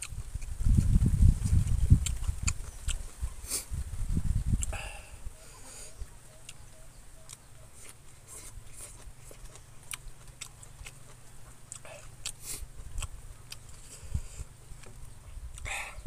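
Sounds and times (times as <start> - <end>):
wet mouth chewing clicks: 0.0 - 3.7, 4.5 - 16.0.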